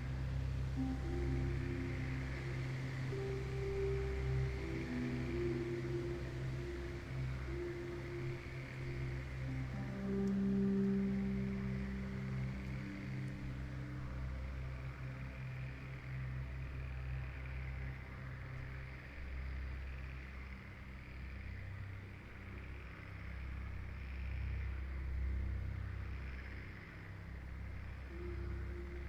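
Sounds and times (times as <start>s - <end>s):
ambient drone music: 0.0s - 29.0s
forest ambience hiss: 0.0s - 29.0s.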